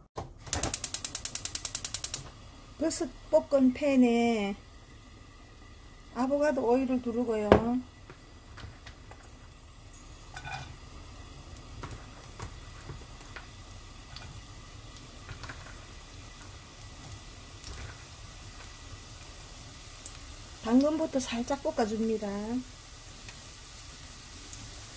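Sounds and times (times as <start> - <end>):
hot oil sizzling in a wok: 0.4 - 24.9.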